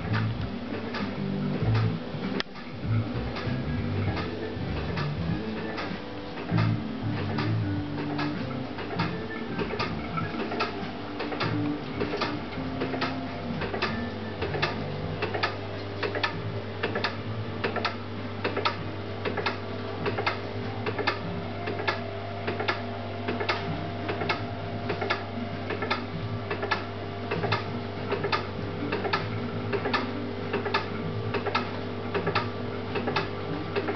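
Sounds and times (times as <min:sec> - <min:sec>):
electrophysiology rig clicking: 0:00.0 - 0:33.9
low electrical hum: 0:00.0 - 0:33.9.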